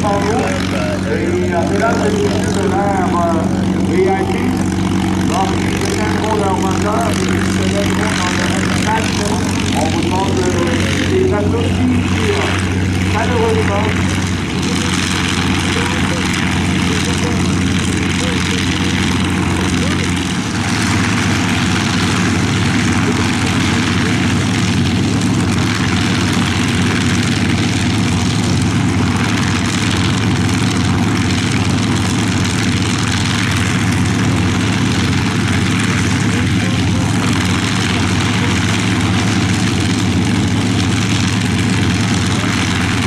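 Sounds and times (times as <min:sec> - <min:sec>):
propeller plane engines running: 0:00.0 - 0:43.0.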